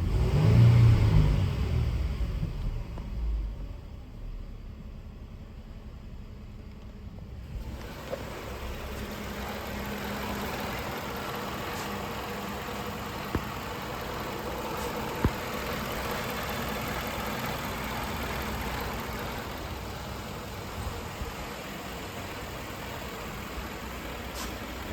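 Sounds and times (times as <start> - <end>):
car engine idling: 1.6 - 24.9.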